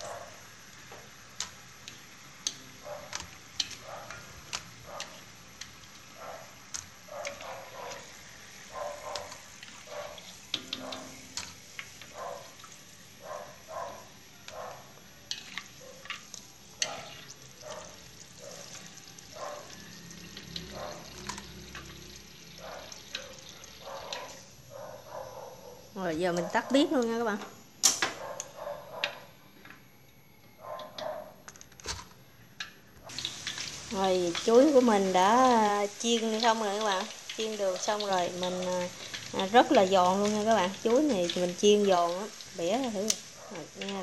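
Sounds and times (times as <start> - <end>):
deep-frying sizzle with pops: 0.0 - 44.0.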